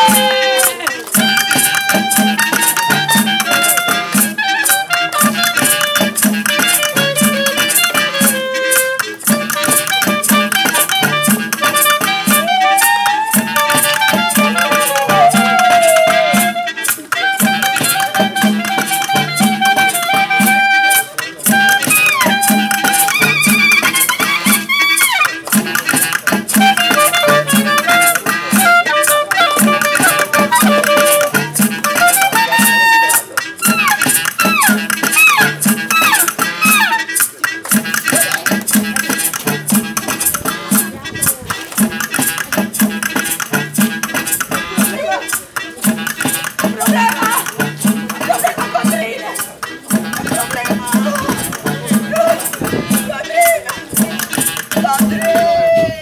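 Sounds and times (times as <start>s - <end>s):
lively music with steady beat: 0.0s - 56.0s
rattling percussion: 0.0s - 56.0s.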